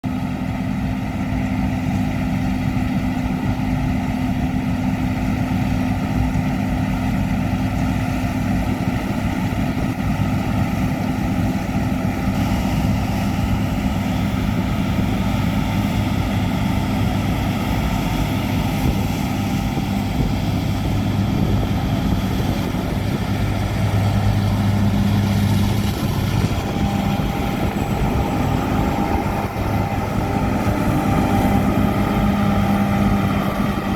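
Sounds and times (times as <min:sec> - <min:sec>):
combine harvester drone: 0:00.0 - 0:33.9.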